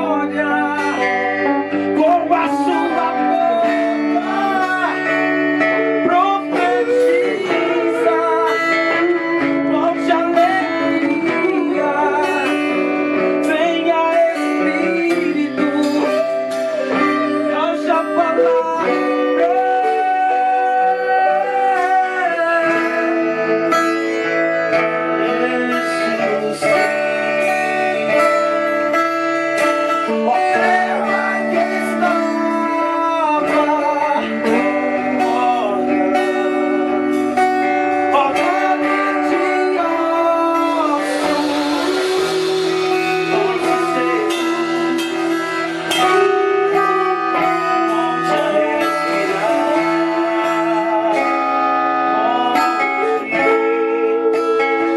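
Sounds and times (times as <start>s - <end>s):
band playing gospel music: 0.0s - 54.9s
guitars: 0.0s - 54.9s
person singing: 0.0s - 54.9s.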